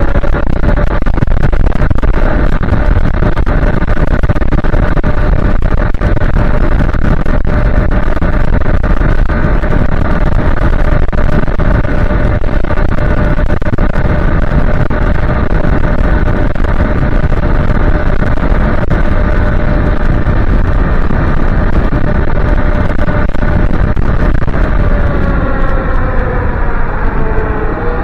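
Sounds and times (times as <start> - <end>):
steady electric motor whine: 0.0 - 28.0
wind rushing on microphone: 0.0 - 28.0.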